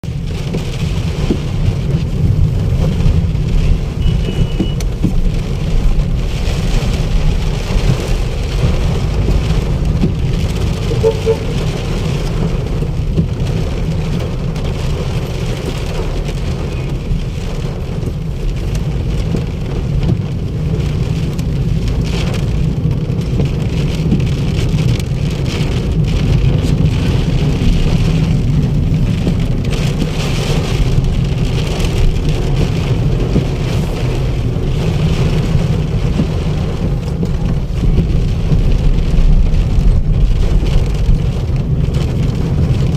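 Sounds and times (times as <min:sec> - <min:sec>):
heavy rain on hard surfaces: 0:00.0 - 0:42.9
low rumble: 0:00.0 - 0:42.9.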